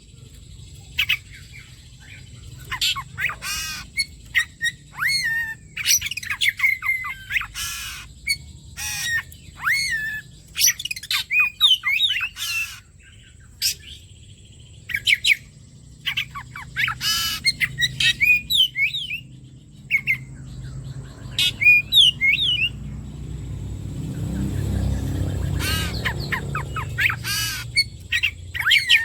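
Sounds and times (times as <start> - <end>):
bird singing whistled notes: 0.0 - 29.0.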